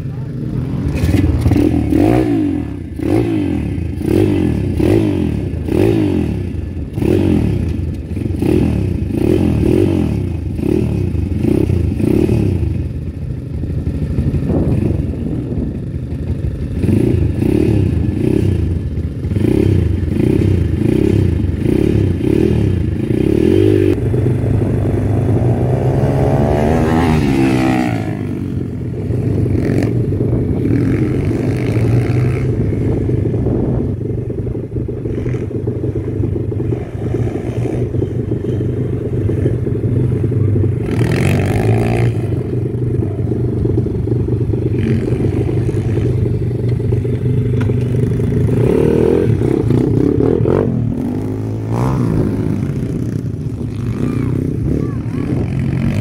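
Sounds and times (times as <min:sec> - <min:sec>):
bike engine revving: 0:00.0 - 0:56.0
pitbike engines pulsing: 0:00.0 - 0:56.0.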